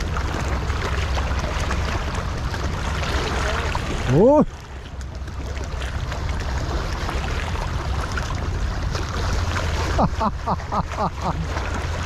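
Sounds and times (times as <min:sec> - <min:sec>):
water lapping against rocks: 0:00.0 - 0:12.0.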